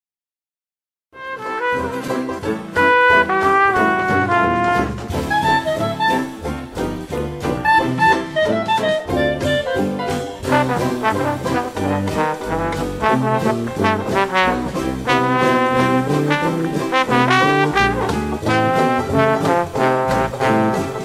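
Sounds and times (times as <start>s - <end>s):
jazz music with brass: 1.2s - 21.0s.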